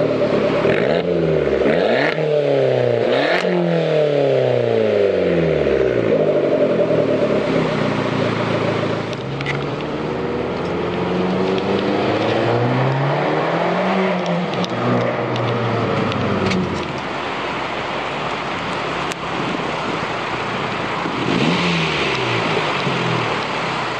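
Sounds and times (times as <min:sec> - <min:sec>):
car engine revving: 0:00.0 - 0:23.9
rushing noise: 0:00.0 - 0:23.9.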